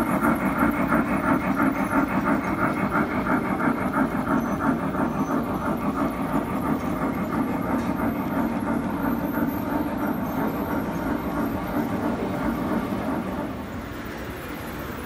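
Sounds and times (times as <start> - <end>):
model train wheels clicking on track: 0.0 - 15.0.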